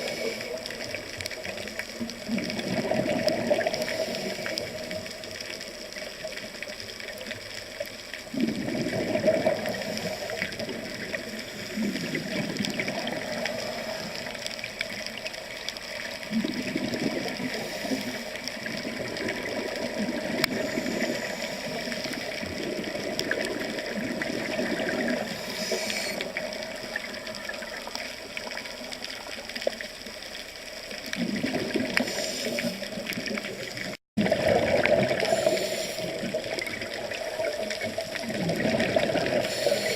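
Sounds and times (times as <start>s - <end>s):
rushing bubbling water: 0.0s - 39.9s.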